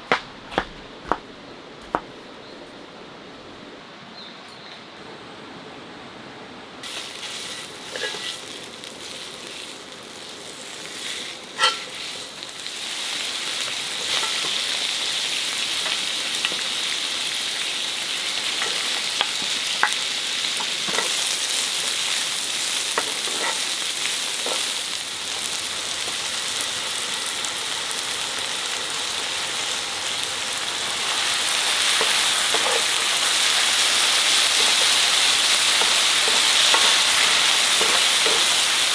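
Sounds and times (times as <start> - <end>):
food sizzling in a pan: 6.8 - 38.9.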